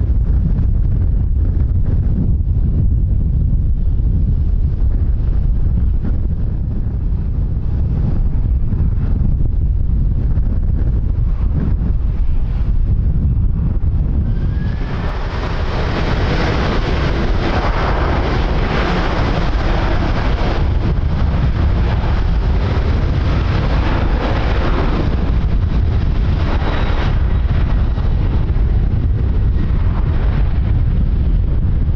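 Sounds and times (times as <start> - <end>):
aircraft engines: 0.0 - 31.9
wind buffeting microphone: 0.0 - 31.9.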